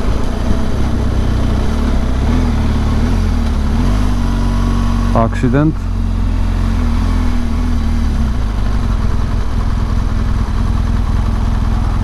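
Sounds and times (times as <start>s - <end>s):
motorcycle engine running: 0.0s - 12.0s
road noise: 0.0s - 12.0s
rushing wind: 0.0s - 12.0s.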